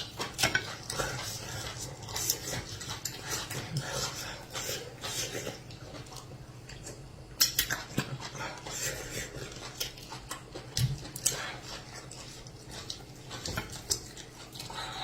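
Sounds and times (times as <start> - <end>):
person chewing wetly: 0.0 - 15.0.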